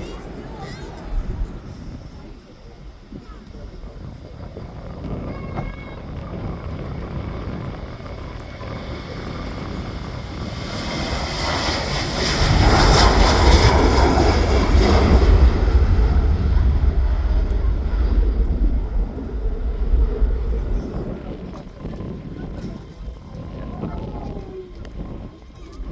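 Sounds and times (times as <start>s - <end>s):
jet airliner engines at takeoff: 0.0s - 25.9s.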